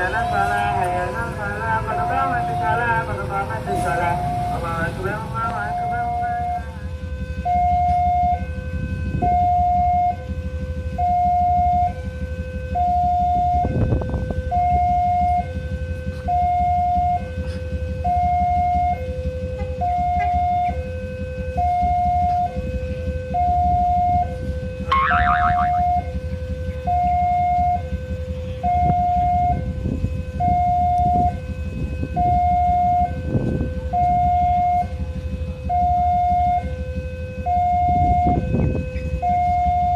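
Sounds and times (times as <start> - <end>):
two-tone warning siren: 0.0 - 39.9.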